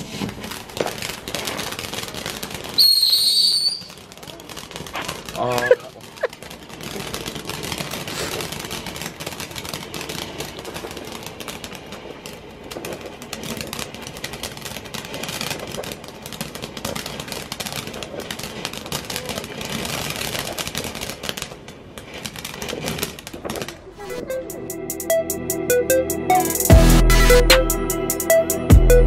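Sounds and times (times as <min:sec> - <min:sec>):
firework fountain hissing: 0:00.0 - 0:25.2
firework crackling: 0:00.0 - 0:28.7.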